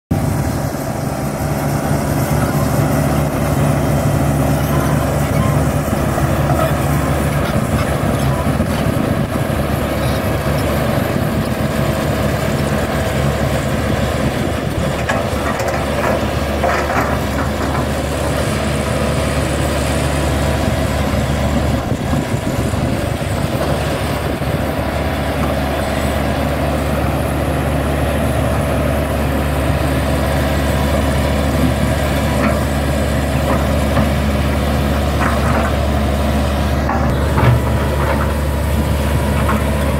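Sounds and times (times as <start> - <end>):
excavator diesel engine running: 0.1 - 39.9.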